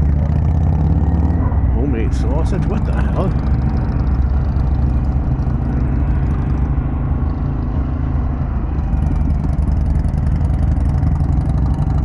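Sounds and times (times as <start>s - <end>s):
motorcycle engine rumble: 0.0s - 12.0s
road and wind noise: 0.0s - 12.0s.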